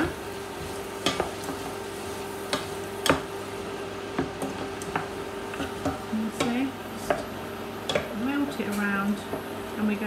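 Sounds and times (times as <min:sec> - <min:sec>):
vegetables sizzling in butter: 0:00.0 - 0:10.0.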